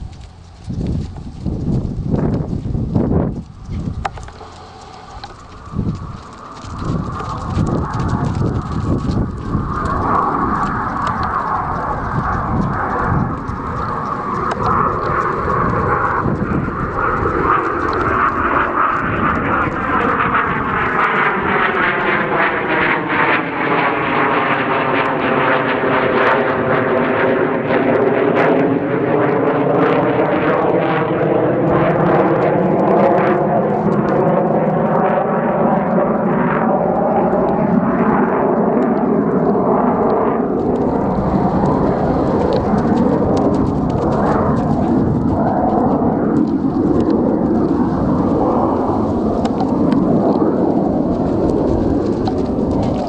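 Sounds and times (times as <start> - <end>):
horse hooves on dirt: 0.0 - 23.4, 31.5 - 53.0
aircraft droning overhead: 0.0 - 53.0.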